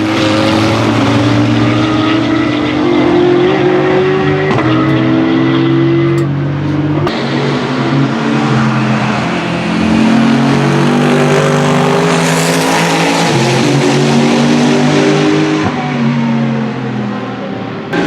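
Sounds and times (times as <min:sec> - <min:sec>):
racing cars passing at speed: 0:00.0 - 0:18.0.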